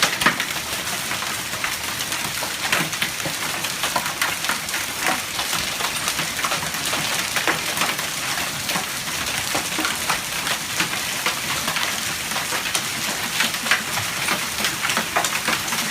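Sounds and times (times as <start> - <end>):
hail and rain hissing: 0.0 - 15.9
hailstones knocking on hard surfaces: 0.0 - 15.9.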